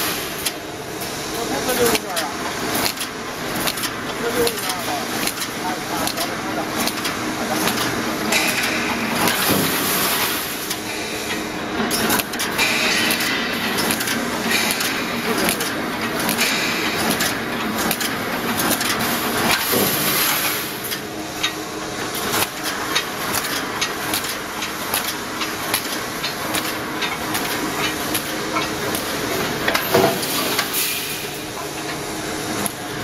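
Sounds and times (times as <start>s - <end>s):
machine mechanical hum: 0.0s - 33.0s
welding head clacks and knocks: 2.8s - 21.6s, 22.2s - 30.8s.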